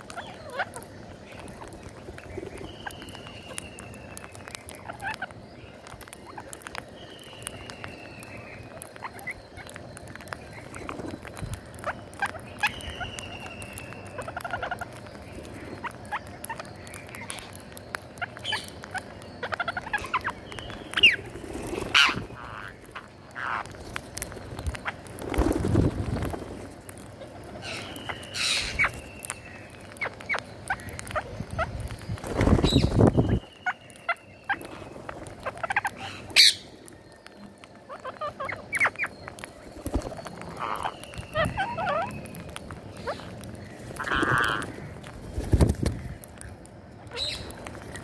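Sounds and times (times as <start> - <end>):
parakeets squawking: 0.0 - 36.9, 37.7 - 48.0
beak clicks and pecks: 0.0 - 48.0.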